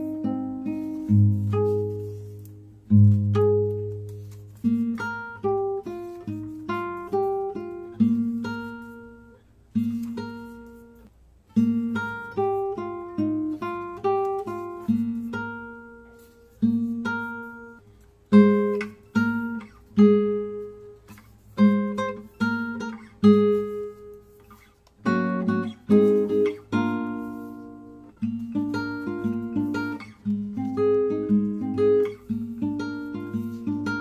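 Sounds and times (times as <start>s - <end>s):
acoustic guitar plucking: 0.0s - 34.0s.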